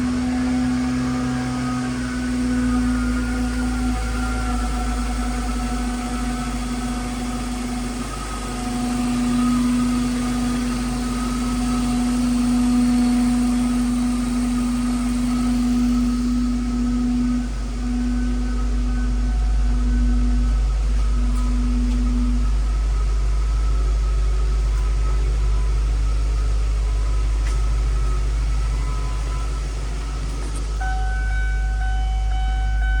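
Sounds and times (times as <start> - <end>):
car engine idling: 0.0 - 33.0
steady high tone: 0.0 - 33.0.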